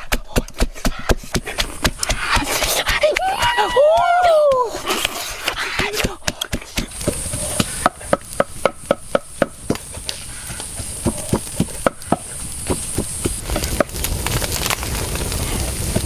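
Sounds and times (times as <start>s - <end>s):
steady high hiss: 1.2s - 16.0s.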